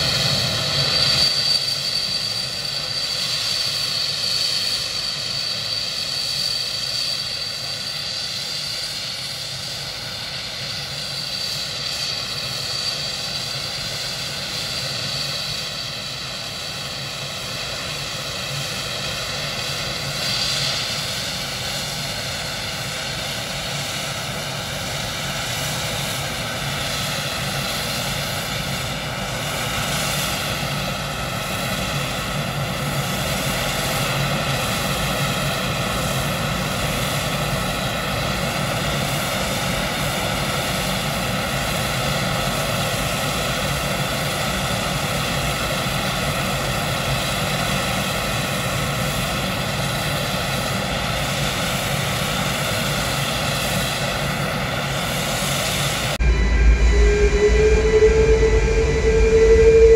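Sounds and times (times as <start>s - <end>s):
auxiliary power unit jet roar: 0.0s - 59.9s.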